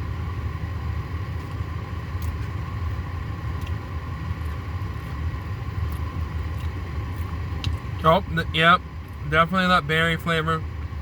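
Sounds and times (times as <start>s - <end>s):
low rumble with faint hum: 0.0s - 11.0s.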